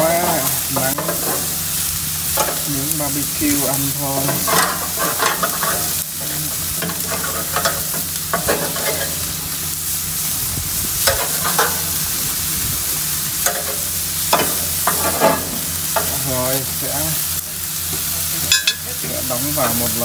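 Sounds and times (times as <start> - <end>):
steaks sizzling on grill: 0.0 - 20.0.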